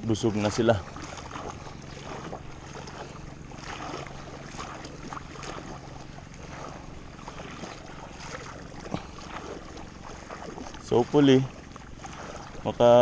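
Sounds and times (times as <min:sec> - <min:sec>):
boat engine hum: 0:00.0 - 0:13.0
rushing water: 0:00.0 - 0:13.0
water splashes: 0:00.0 - 0:13.0.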